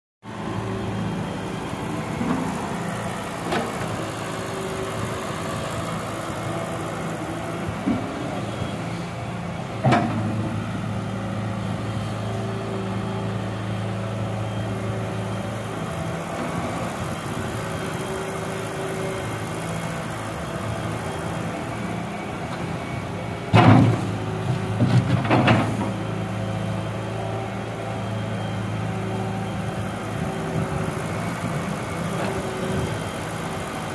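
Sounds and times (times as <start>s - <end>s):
excavator diesel engine running: 0.2s - 33.9s.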